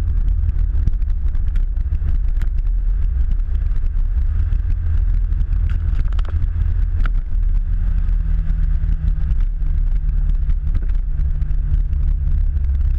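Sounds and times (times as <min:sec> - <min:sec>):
motorcycle engine running: 0:00.0 - 0:12.9
wind buffeting microphone: 0:00.0 - 0:12.9.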